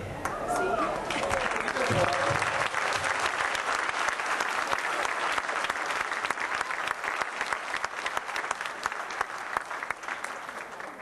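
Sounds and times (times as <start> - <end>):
crowd applauding: 0.2 - 11.0.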